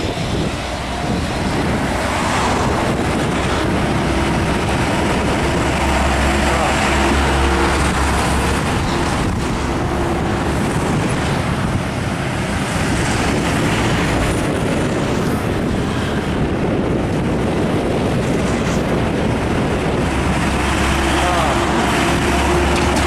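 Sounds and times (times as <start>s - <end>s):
heavy trucks passing: 0.0s - 23.0s.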